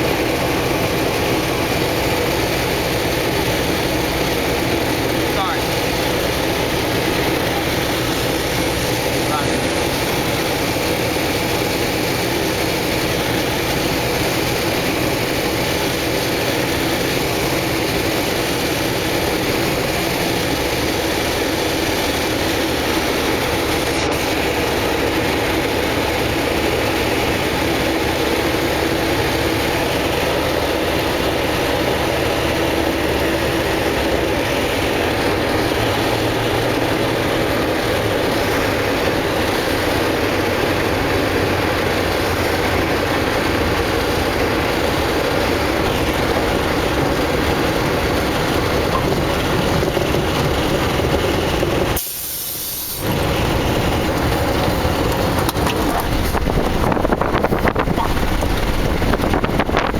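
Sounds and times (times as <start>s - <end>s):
engines droning: 0.0s - 59.9s.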